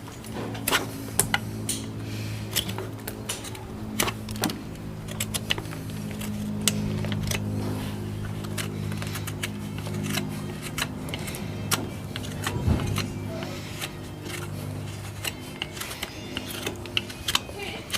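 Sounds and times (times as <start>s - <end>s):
steady low hum: 0.0s - 17.9s
farrier's tools clicking on hoof: 0.1s - 17.9s.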